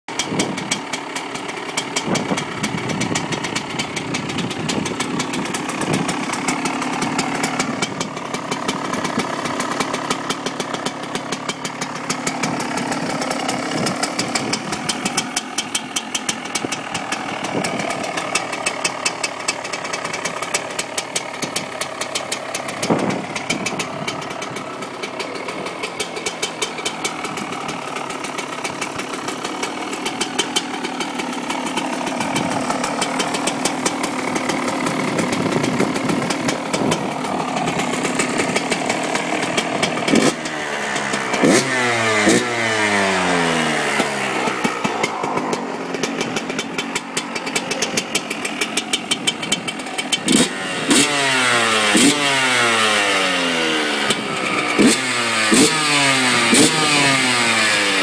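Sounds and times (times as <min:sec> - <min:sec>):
two-stroke engine idling: 0:00.1 - 0:58.0.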